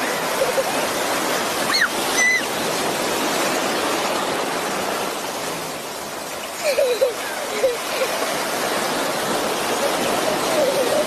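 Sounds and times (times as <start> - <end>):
sea surf breaking waves: 0.0 - 11.0.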